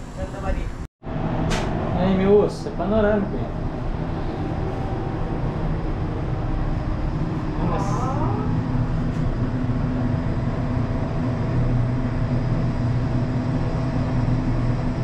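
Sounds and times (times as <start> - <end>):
elevator mechanical hum: 0.0 - 15.0.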